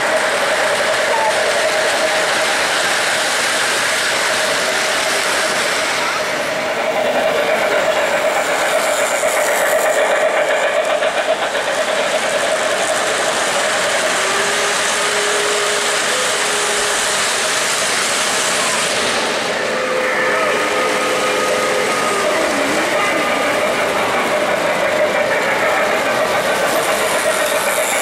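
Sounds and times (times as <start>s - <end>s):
model train running on track: 0.0s - 28.0s.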